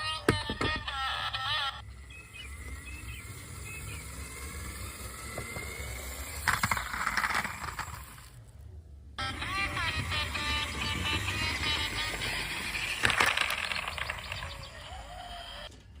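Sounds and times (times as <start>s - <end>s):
toy car mechanism whirring: 0.0s - 8.6s, 9.2s - 16.0s.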